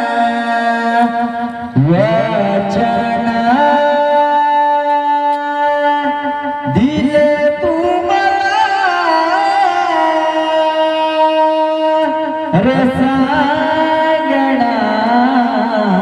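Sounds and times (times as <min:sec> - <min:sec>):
person singing long notes: 0:00.0 - 0:16.0.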